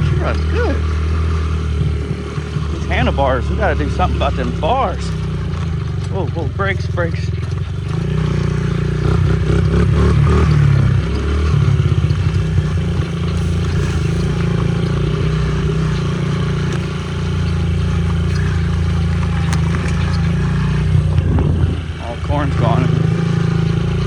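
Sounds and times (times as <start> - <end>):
small motorcycle engine under throttle: 0.0 - 24.0.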